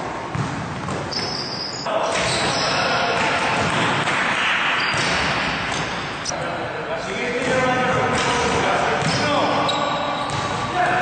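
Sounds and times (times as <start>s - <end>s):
basketballs bouncing on court: 0.0s - 6.0s, 7.4s - 11.0s
sneakers squeaking: 0.0s - 6.3s, 7.4s - 10.8s
noisy gym din: 0.0s - 11.0s.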